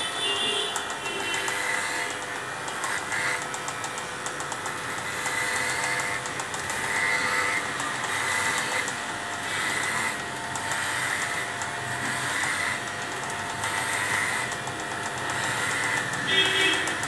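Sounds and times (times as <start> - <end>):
electric pet clippers buzzing: 0.0 - 17.0.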